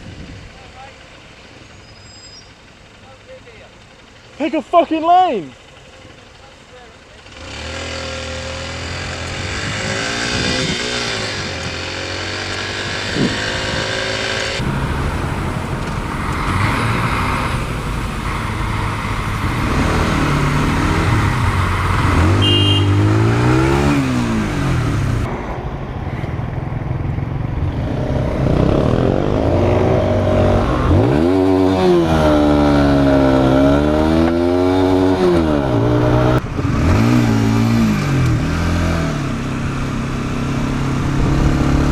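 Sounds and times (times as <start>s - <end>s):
motorcycle engine accelerating: 0.0s - 41.9s
road and wind noise: 0.0s - 41.9s.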